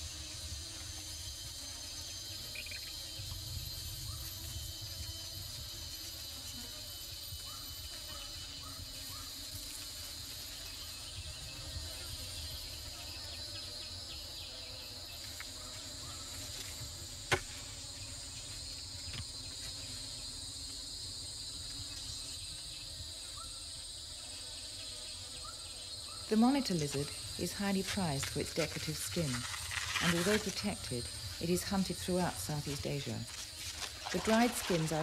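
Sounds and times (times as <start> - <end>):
insects chorus: 0.0 - 35.0.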